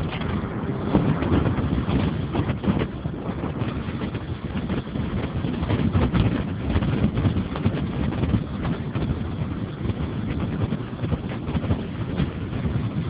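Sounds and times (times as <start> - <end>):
car engine and road noise: 0.0 - 13.0
wind buffeting microphone: 0.0 - 13.0.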